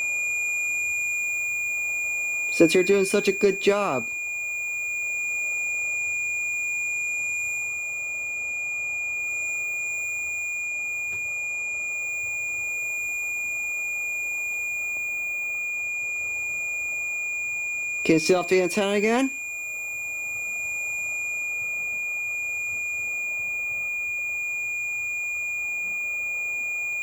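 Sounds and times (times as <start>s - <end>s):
meter alarm tone: 0.7s - 27.0s.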